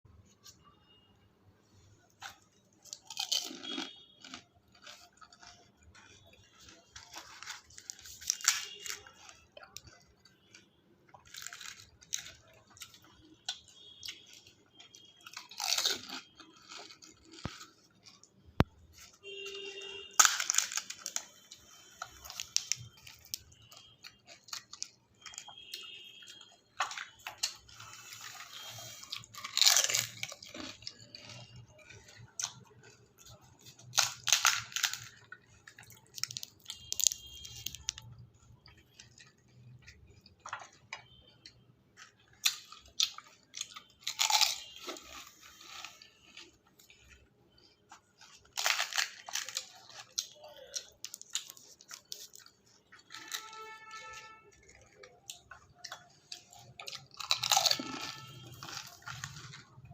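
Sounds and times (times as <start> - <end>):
chewing: 1.7 - 59.9
crisp shells crunching: 2.1 - 40.8, 42.1 - 59.9.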